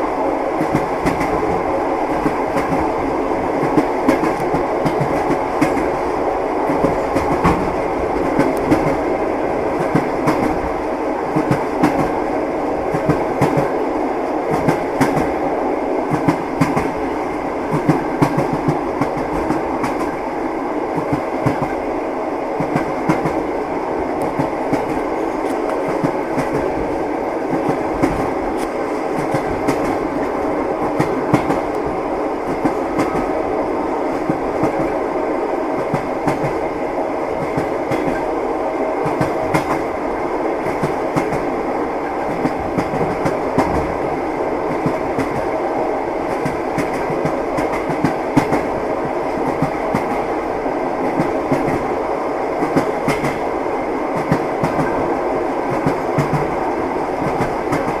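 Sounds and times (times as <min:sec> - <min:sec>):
train wheels clattering on rails: 0:00.0 - 0:13.8, 0:14.4 - 0:15.4, 0:16.0 - 0:20.2, 0:20.9 - 0:21.9, 0:22.6 - 0:33.4, 0:34.0 - 0:35.0, 0:35.7 - 0:38.4, 0:39.0 - 0:45.6, 0:46.2 - 0:58.0.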